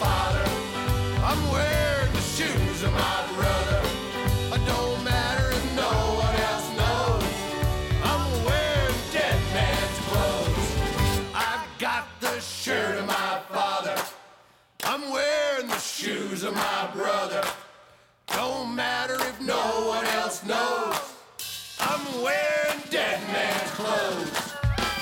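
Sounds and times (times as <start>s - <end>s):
handclaps keeping a beat: 0.0s - 14.2s, 14.8s - 25.0s
group singing in harmony: 0.0s - 14.4s, 15.0s - 24.6s.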